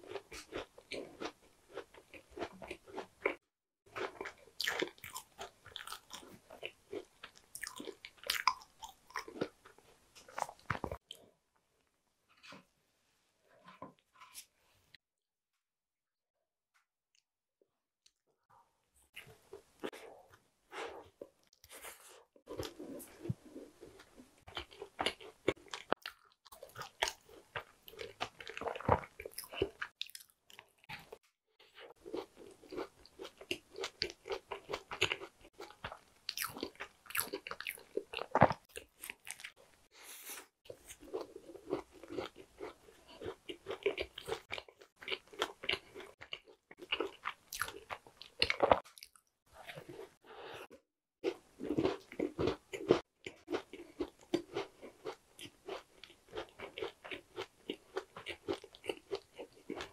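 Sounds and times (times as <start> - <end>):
chewing and crunching pastry: 0.0 - 11.4, 18.5 - 59.9.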